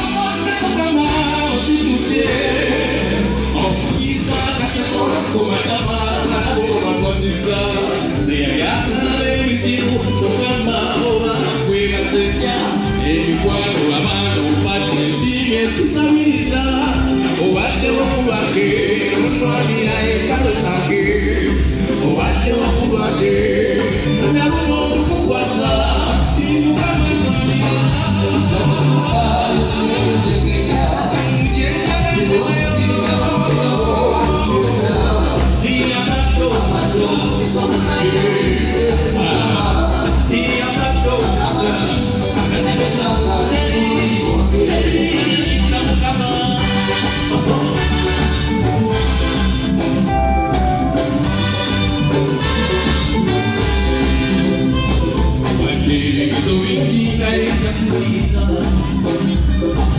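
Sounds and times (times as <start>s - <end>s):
band music: 0.0s - 59.9s
person singing: 0.0s - 59.9s
steady bass line: 0.0s - 59.9s.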